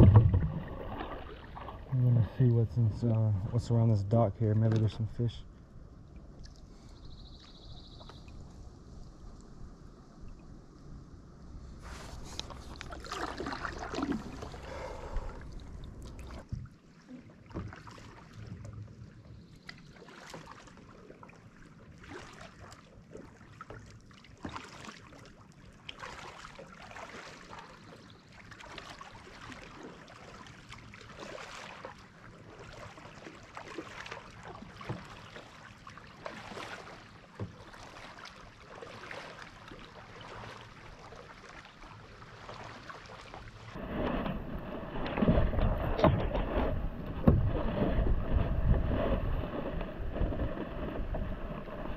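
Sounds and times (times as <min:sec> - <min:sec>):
paddle splashing in water: 0:00.0 - 0:02.5, 0:11.8 - 0:51.9.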